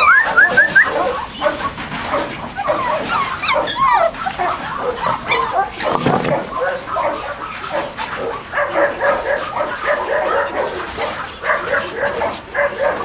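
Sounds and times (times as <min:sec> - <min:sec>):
puppies yipping and whining: 0:00.0 - 0:13.0.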